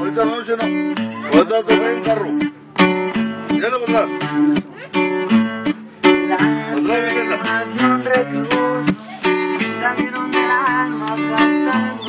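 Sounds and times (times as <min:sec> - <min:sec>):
higher melody line: 0:00.0 - 0:12.0
strummed guitar chords: 0:00.0 - 0:12.0.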